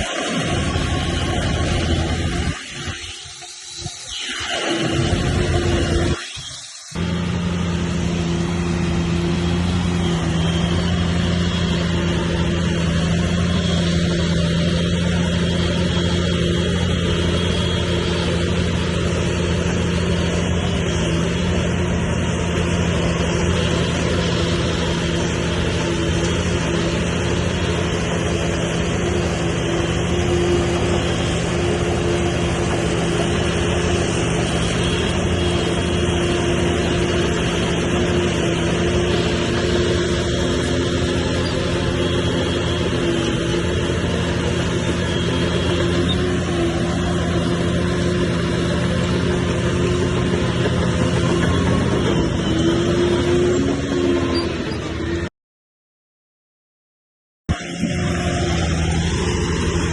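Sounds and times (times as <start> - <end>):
heavy diesel engine running: 0.0 - 55.3, 57.5 - 59.9.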